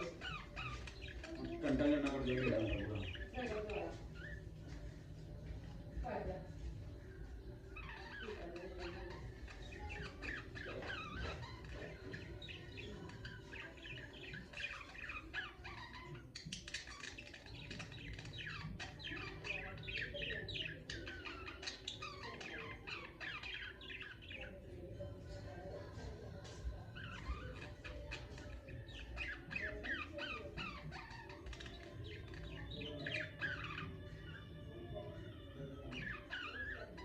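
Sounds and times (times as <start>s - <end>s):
budgerigars chirping: 0.0s - 25.4s, 26.9s - 35.2s, 35.8s - 37.0s.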